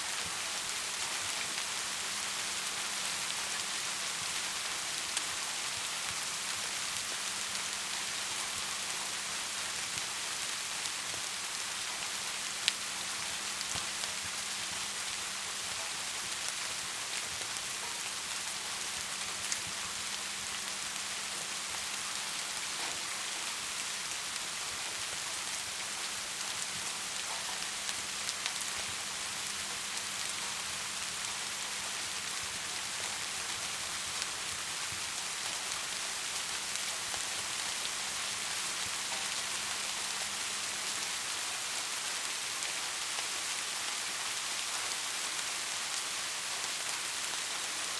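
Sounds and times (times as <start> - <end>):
rain hiss: 0.0 - 47.9
wood fire crackling: 0.1 - 47.9.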